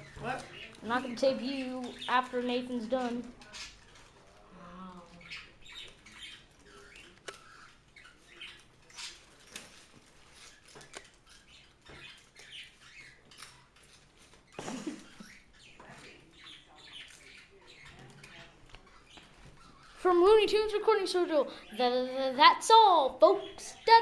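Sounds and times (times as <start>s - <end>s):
parakeets chirping and chattering: 0.0s - 24.0s.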